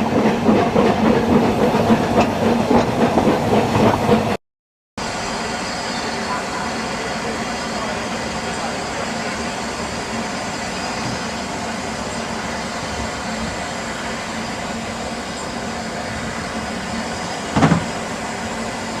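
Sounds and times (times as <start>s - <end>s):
train running: 0.0s - 4.4s, 5.0s - 19.0s.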